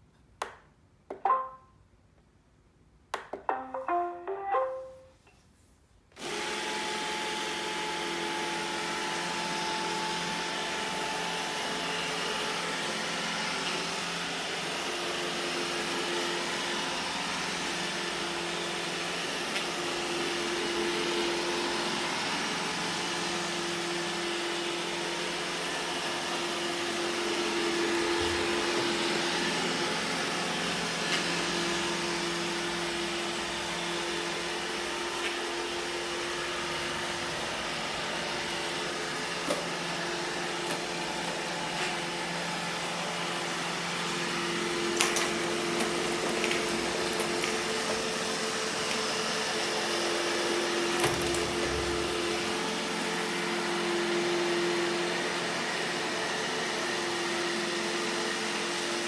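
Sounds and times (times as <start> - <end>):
robot vacuum whirring: 6.2 - 16.7, 17.3 - 59.0.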